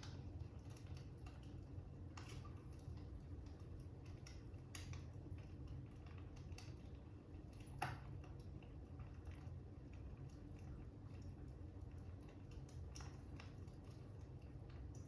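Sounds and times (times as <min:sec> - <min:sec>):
fire crackling: 0:00.0 - 0:15.0
low steady rumble: 0:00.0 - 0:15.0.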